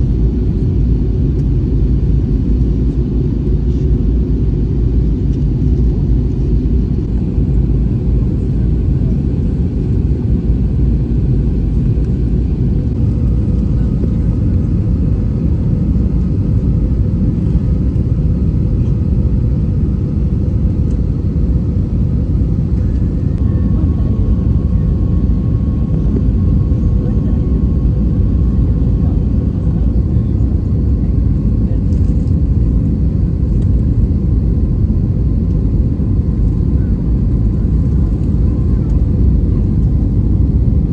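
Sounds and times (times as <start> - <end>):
aircraft cabin engine rumble: 0.0 - 40.9.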